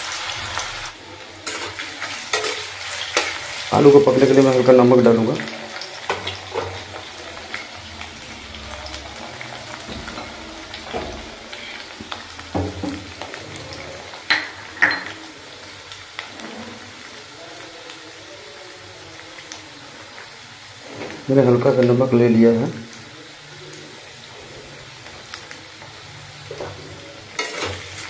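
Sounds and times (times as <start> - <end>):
potatoes sizzling in hot oil: 0.0 - 28.0.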